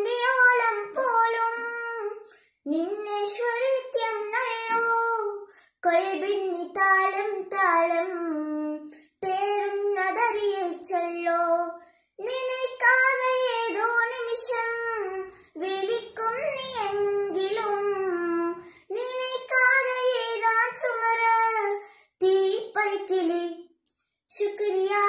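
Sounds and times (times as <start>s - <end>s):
child singing unaccompanied: 0.0s - 25.0s.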